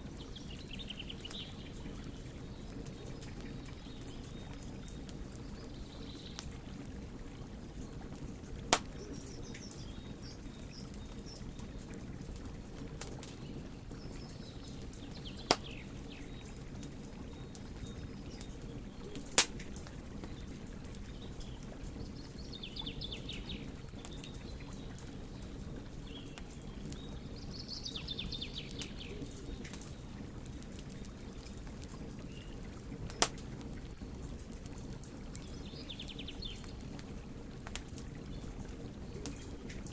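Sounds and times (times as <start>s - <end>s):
fire crackling pops: 0.0s - 22.4s, 23.5s - 27.1s, 28.0s - 39.9s
wood fire burning: 0.0s - 39.9s.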